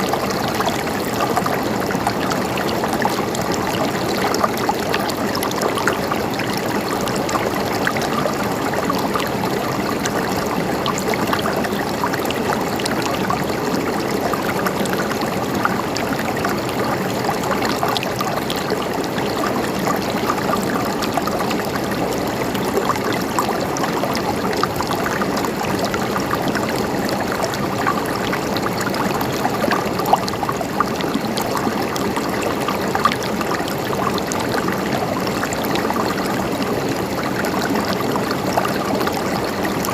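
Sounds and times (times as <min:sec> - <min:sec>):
stream gurgling and trickling: 0:00.0 - 0:39.9.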